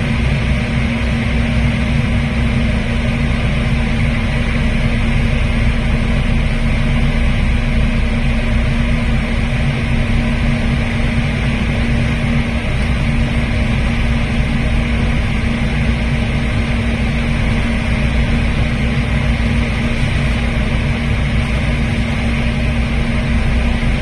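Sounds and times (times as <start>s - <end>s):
boat engines droning: 0.0s - 24.0s
low hum: 0.0s - 24.0s.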